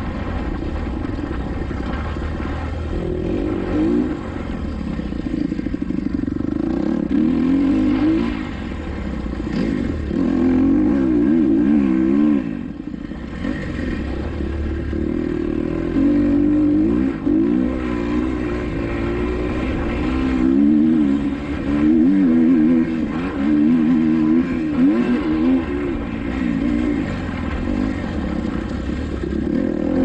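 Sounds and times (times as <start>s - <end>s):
dirt bike engine revving: 1.1s - 30.0s.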